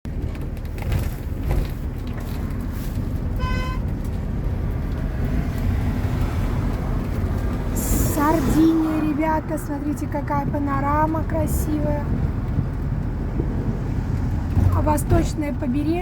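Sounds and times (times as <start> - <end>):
car cabin road and engine rumble: 0.1 - 16.0.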